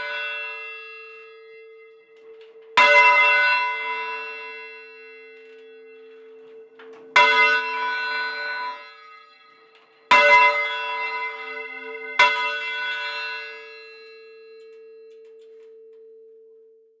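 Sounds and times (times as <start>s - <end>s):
church bell ringing: 0.0s - 16.9s.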